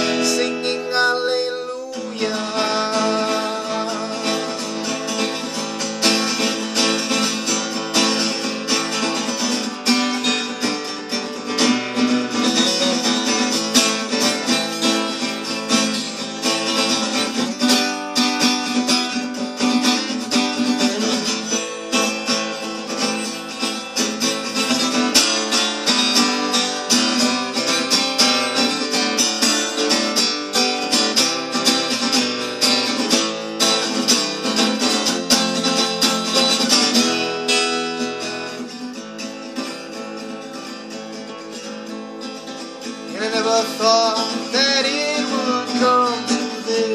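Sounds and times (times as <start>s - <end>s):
acoustic guitar strumming chords: 0.0s - 46.9s.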